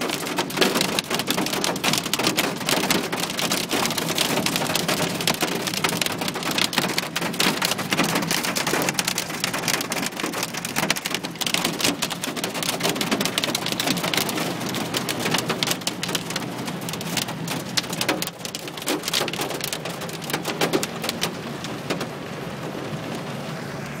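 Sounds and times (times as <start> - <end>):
heavy rain on car roof: 0.0 - 24.0.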